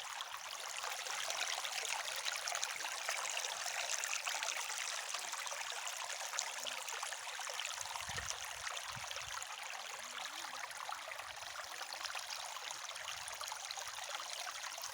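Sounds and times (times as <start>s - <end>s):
stream trickling and splashing: 0.0s - 14.9s.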